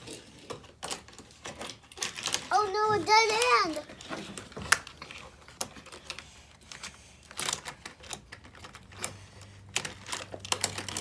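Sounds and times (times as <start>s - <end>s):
plastic toy car clicks: 0.0s - 2.6s, 3.2s - 11.0s.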